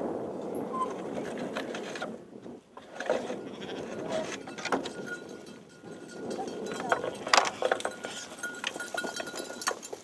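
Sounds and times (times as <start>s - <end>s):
hooves pattering on dirt: 1.0s - 10.0s.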